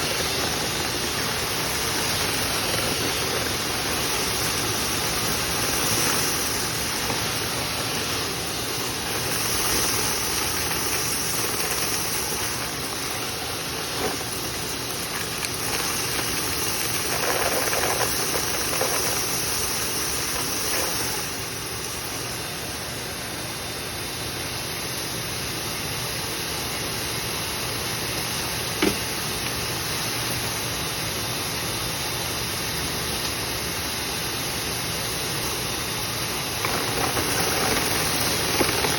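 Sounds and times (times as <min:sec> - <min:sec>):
machine drone with rushing air: 0:00.0 - 0:25.5, 0:29.9 - 0:38.9.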